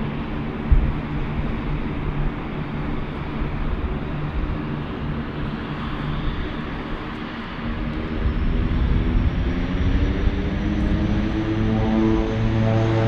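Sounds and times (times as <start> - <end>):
airliner engines running: 0.0 - 13.0.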